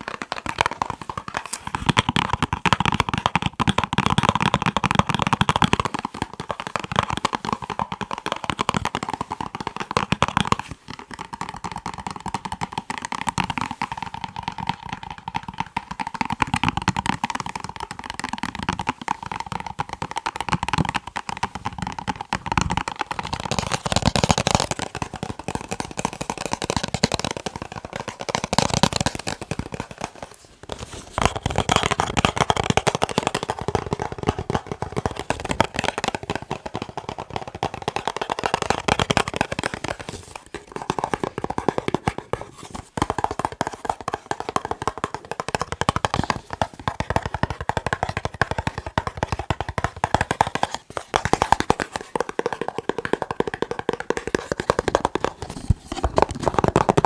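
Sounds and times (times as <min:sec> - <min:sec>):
fingers tapping on boxes: 0:00.0 - 0:57.0.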